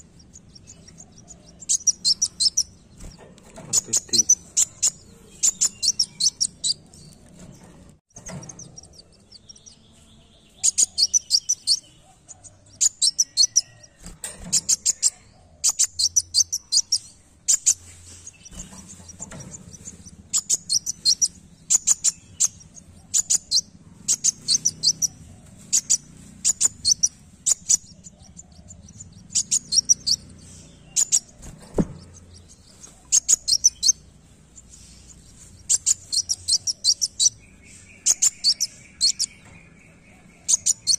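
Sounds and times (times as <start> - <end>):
bird chirping rapidly: 0.0 - 40.9.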